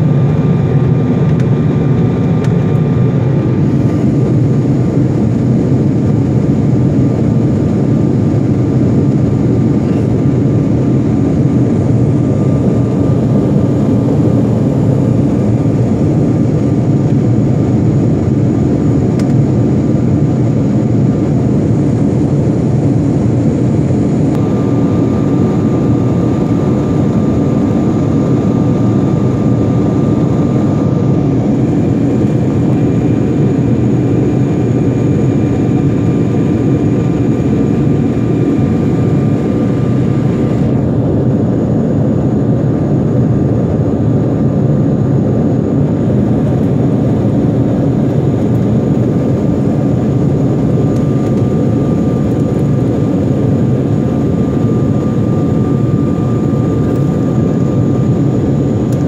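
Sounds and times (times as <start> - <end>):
faint steady whine: 0.0 - 59.0
jet engines and airflow rush: 0.0 - 59.0.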